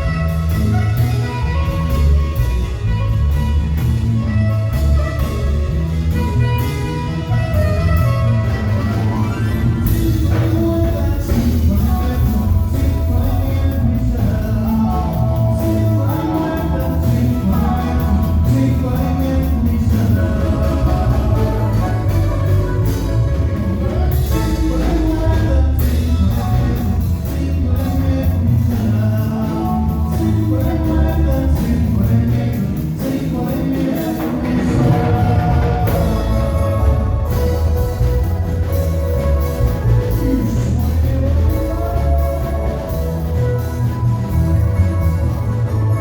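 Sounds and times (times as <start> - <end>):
live latin band music: 0.0 - 46.0.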